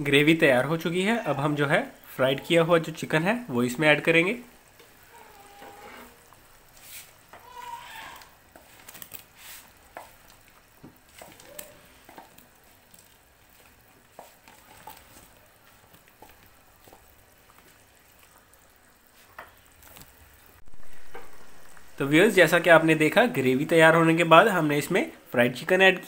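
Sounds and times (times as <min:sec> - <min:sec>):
gravy bubbling in a pot: 0:00.0 - 0:26.0.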